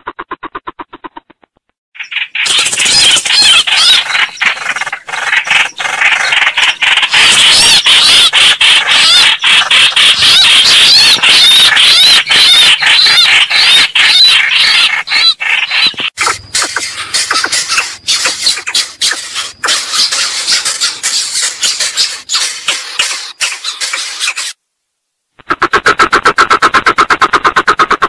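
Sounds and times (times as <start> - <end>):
coucal calls: 2.0 - 24.5.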